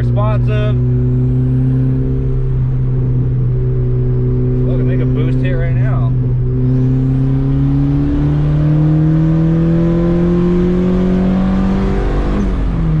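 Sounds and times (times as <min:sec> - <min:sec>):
turbocharged car engine accelerating: 0:00.0 - 0:13.0.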